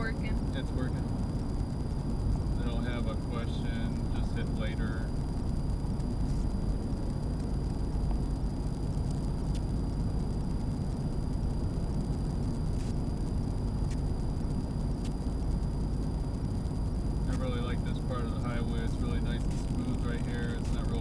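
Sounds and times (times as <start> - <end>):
road and engine noise in cab: 0.0 - 21.0.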